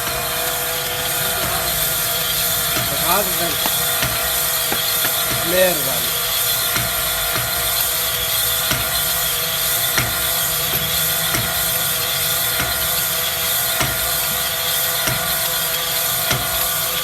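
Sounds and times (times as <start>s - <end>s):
workshop machine humming: 0.0s - 17.0s.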